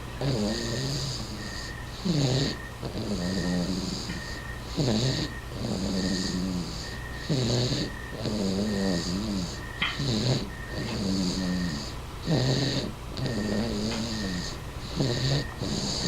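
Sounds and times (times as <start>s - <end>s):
baby snoring: 0.0s - 16.0s.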